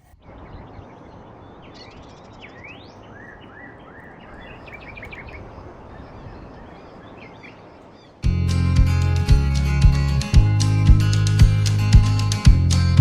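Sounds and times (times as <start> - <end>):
birds calling: 0.0 - 12.4
outdoor background rush: 0.0 - 13.0.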